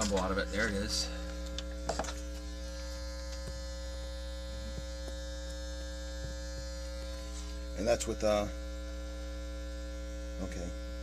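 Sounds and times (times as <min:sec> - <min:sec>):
buzzy electrical hum: 0:00.0 - 0:11.0.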